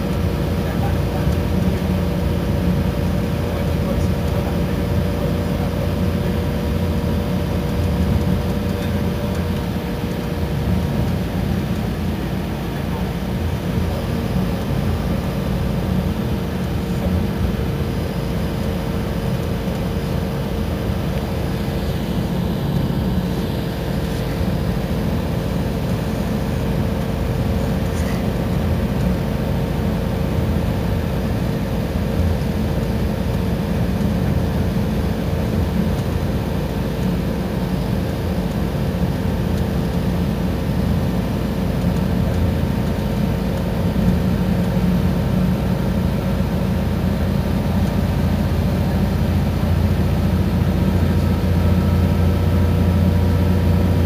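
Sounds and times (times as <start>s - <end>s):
bus engine and road rumble: 0.0s - 54.0s
constant hum: 0.0s - 54.0s.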